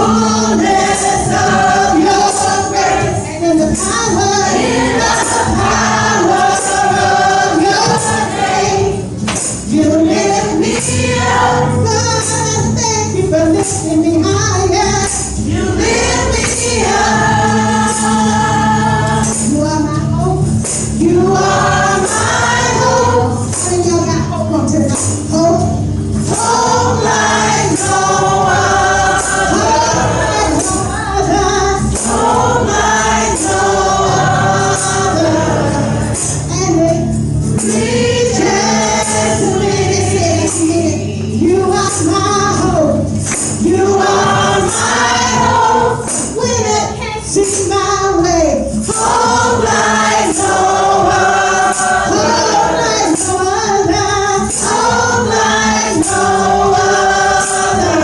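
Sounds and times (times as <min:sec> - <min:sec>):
choir singing over a band: 0:00.0 - 0:12.8, 0:14.8 - 0:24.1, 0:25.6 - 0:58.0
tambourine shaken: 0:00.0 - 0:58.0.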